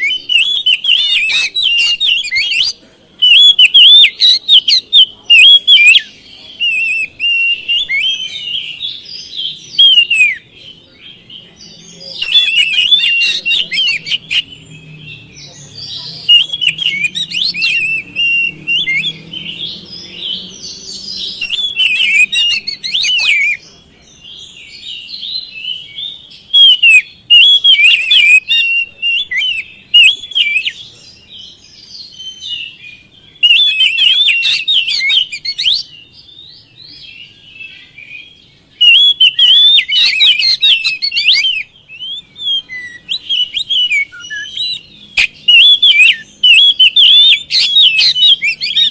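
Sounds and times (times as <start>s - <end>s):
bird singing whistles and chatter: 0.0s - 48.9s.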